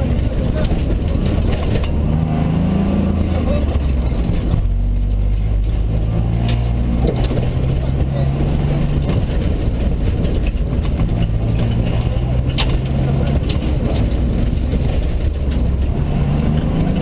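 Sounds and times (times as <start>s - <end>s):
rally car engine running hard: 0.0s - 17.0s.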